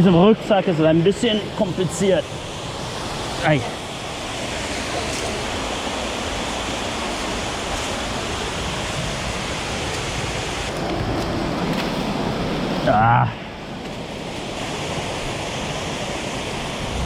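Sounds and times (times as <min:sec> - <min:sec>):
river water rushing over rocks: 0:00.1 - 0:17.0.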